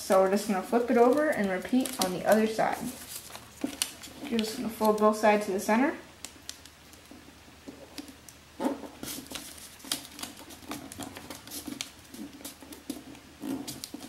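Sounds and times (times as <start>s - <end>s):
paper folding and creasing: 0.1s - 5.2s, 6.3s - 14.0s.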